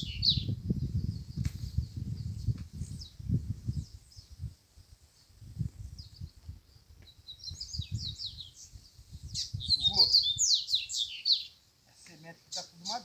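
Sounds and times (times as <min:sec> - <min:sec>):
bird singing high chirps: 0:00.0 - 0:04.4, 0:05.8 - 0:13.0.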